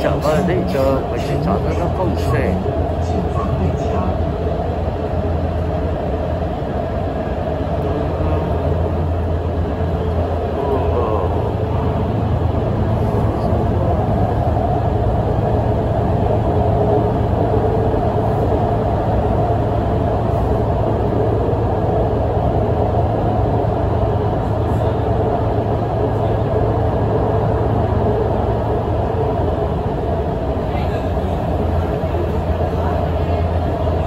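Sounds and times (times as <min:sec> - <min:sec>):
faint steady hum: 0:00.0 - 0:34.0
train wheels rumbling on rail: 0:00.0 - 0:34.0.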